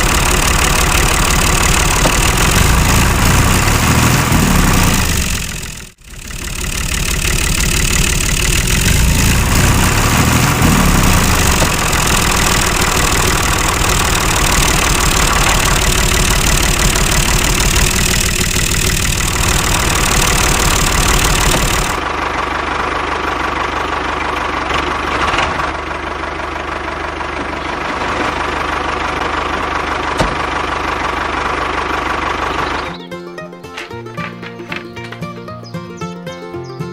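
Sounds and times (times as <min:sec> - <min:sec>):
small engine running: 0:00.0 - 0:35.1.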